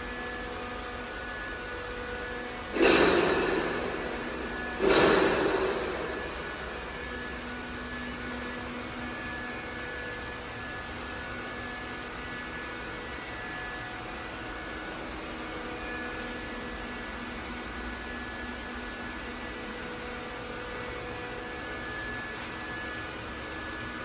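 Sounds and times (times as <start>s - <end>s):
machinery hum and hiss: 0.0s - 24.0s.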